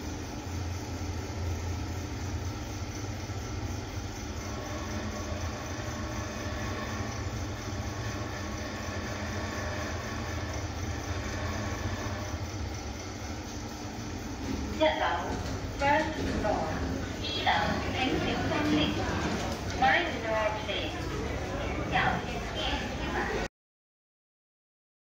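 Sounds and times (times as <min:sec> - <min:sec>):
lift humming: 0:00.0 - 0:23.5.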